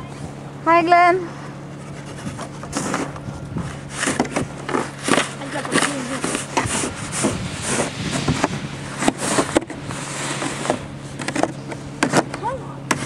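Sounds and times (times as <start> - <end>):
steady low hum: 0.0 - 13.0
snow shovels scraping snow: 0.9 - 13.0.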